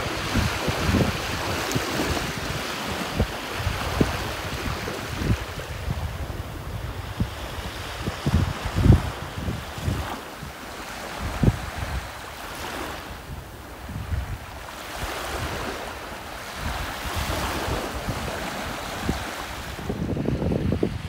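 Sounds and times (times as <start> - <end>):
small waves lapping on beach: 0.0 - 21.0
wind buffeting microphone: 0.0 - 21.0.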